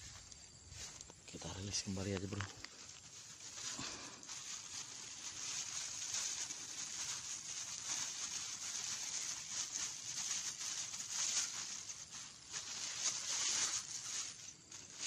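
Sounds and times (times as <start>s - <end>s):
faint rustles: 0.0s - 15.0s
steady high hiss: 0.0s - 15.0s.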